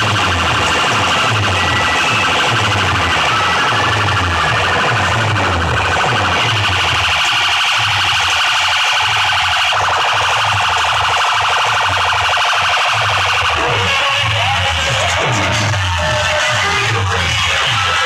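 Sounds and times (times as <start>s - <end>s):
heavy repeating bass beat: 0.0s - 18.0s
loud electronic dance music: 0.0s - 18.0s
pulsing siren-like electronic tone: 0.0s - 18.0s.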